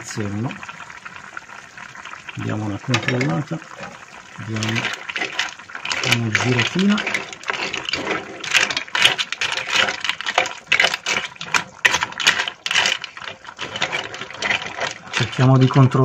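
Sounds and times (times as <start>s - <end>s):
shells clattering in a pot: 2.8s - 16.0s.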